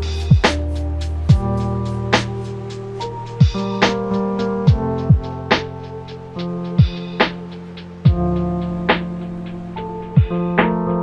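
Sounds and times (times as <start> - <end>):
held chords over drum beat: 0.0 - 11.0.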